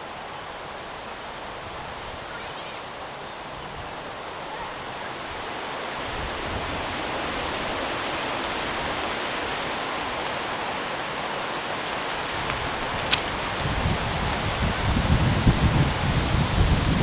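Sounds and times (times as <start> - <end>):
rushing wind: 0.0 - 17.0
wind buffeting microphone: 3.4 - 17.0.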